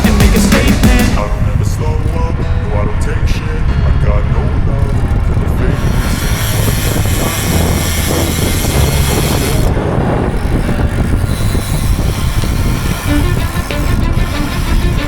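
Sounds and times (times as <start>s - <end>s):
vehicle engine hum: 0.0s - 15.0s
road and wind noise: 1.2s - 15.0s.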